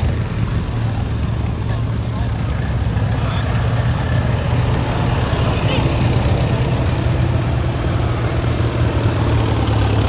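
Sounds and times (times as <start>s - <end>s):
engine humming steadily: 0.0s - 10.0s.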